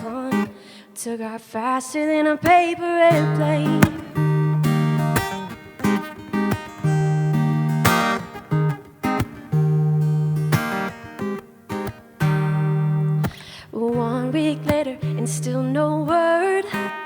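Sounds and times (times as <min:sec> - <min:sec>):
acoustic guitar strummed: 0:02.3 - 0:17.0.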